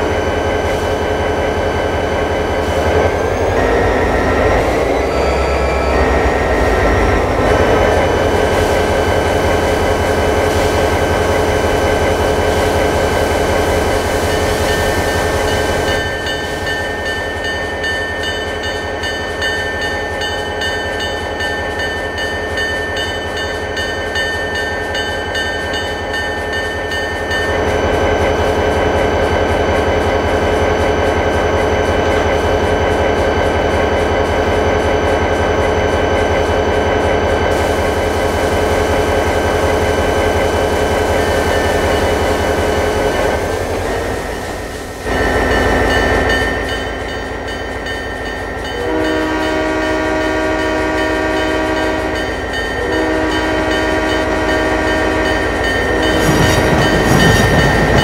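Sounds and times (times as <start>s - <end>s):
train running with constant tones: 0.0s - 58.0s.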